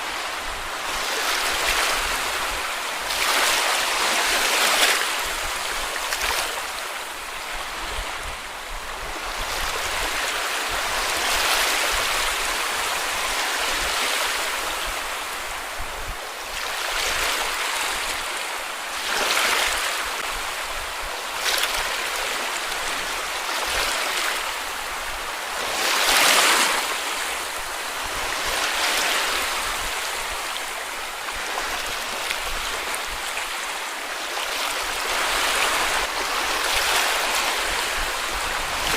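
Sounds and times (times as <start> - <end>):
small waves washing onto beach: 0.0 - 38.9.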